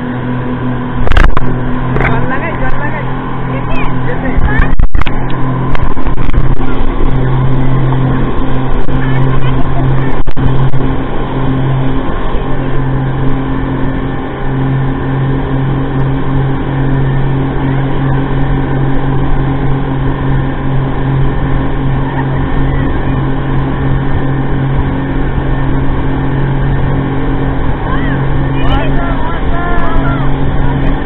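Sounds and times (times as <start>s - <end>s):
speedboat engines droning: 0.0s - 31.0s
water rushing against hull: 0.0s - 31.0s.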